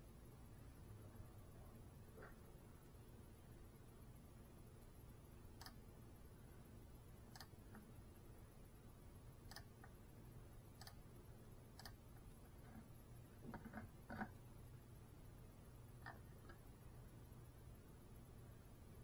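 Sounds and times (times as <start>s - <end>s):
faint steady hum and hiss: 0.0s - 19.0s.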